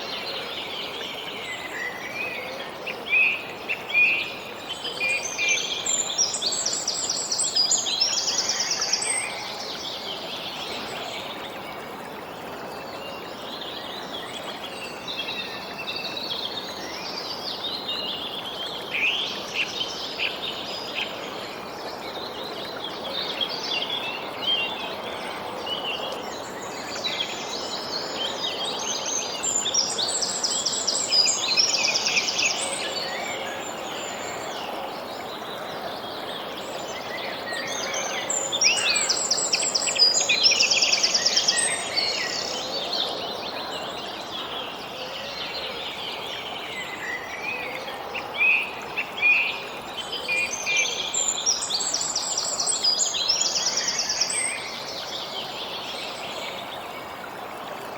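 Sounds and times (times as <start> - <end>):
outdoor background hiss: 0.0 - 57.9
songbirds singing: 0.0 - 57.9.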